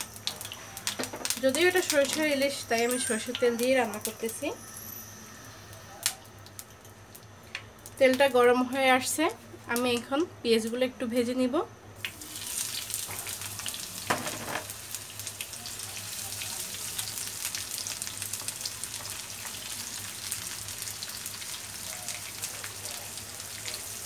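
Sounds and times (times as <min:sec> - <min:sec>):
onions sizzling in oil: 0:00.0 - 0:07.3, 0:12.0 - 0:24.0.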